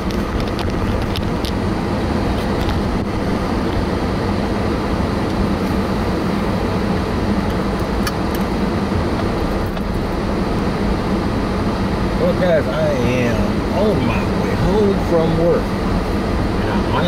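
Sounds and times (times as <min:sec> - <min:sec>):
road and engine noise in car cabin: 0:00.0 - 0:17.0.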